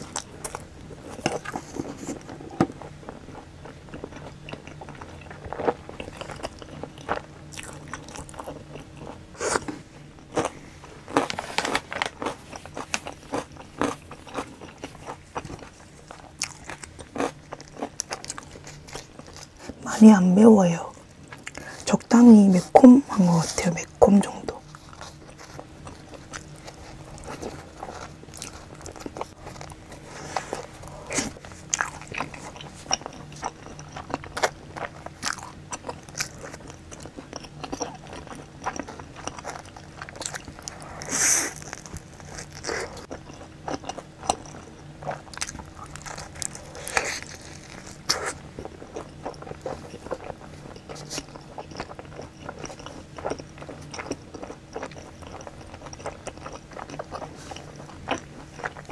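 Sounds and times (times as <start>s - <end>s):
person chewing pizza: 0.0s - 58.9s.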